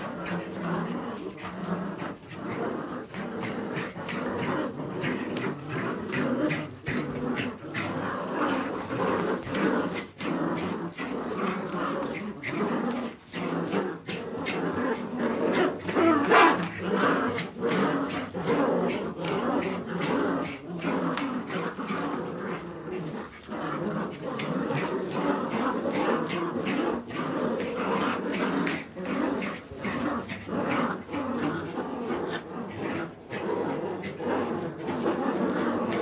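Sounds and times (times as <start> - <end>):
puppies growling and whining: 0.0 - 36.0.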